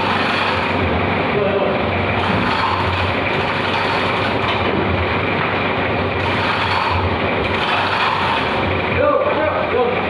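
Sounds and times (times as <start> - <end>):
machine running steadily: 0.0 - 10.0.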